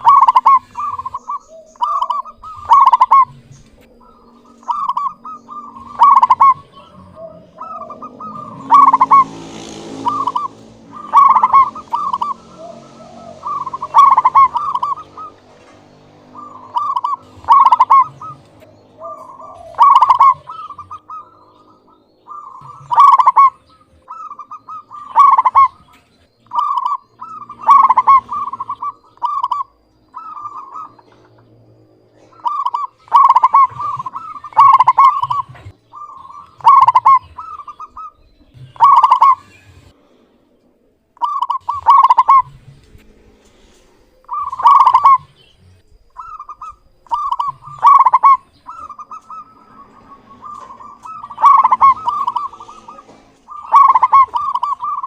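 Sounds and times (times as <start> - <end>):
dove cooing: 0.0 - 40.2, 41.2 - 55.0.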